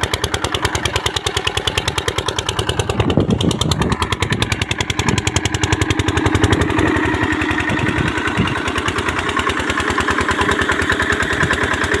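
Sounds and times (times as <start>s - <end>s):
diesel pump engine running: 0.0s - 12.0s.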